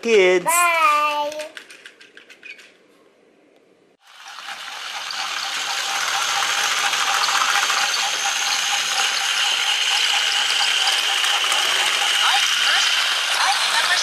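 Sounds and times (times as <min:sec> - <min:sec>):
toy train motor whirring: 0:01.1 - 0:02.8, 0:04.0 - 0:14.0
toy train wheels clattering: 0:01.1 - 0:02.8, 0:04.1 - 0:14.0.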